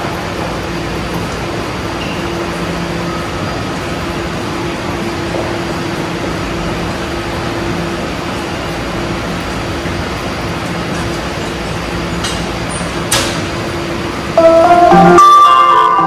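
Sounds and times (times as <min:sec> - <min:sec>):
train air conditioning hum: 0:00.0 - 0:16.0.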